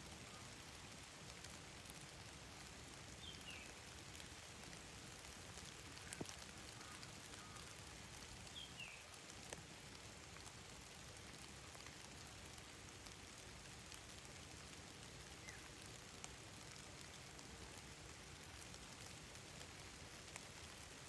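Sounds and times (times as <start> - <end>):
light rain on foliage: 0.0 - 21.0.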